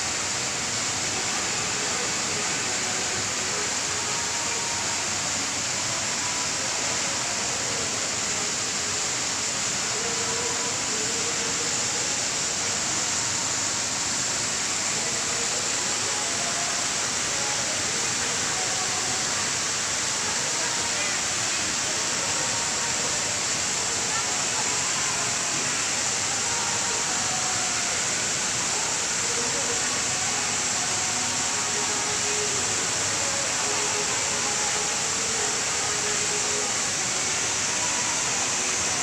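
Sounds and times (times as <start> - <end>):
faint background chatter: 0.0 - 39.0
waterfall splashing into pond: 0.0 - 39.0.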